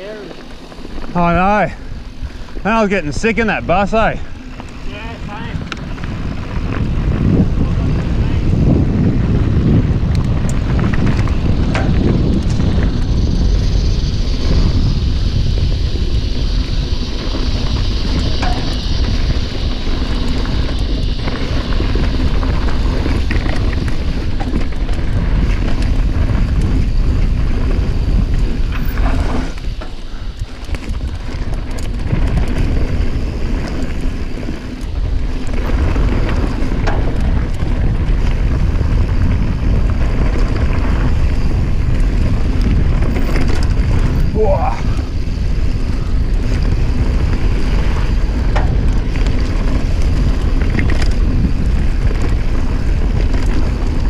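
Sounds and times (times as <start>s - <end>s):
bike rattling: 0.0s - 54.0s
bike tyre rumble: 0.0s - 54.0s
wind buffeting microphone: 0.0s - 54.0s.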